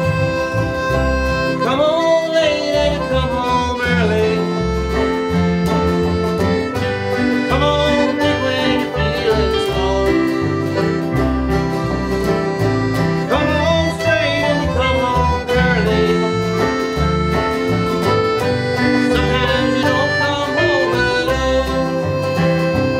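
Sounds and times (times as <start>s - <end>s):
accordion: 0.0s - 22.9s
guitar: 0.0s - 22.9s
sliding fiddle melody: 0.0s - 22.9s
steady bass rhythm: 0.0s - 22.9s.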